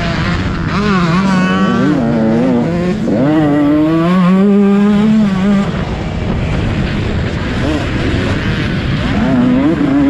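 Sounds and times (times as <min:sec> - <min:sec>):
motocross bike engine revving: 0:00.0 - 0:10.0.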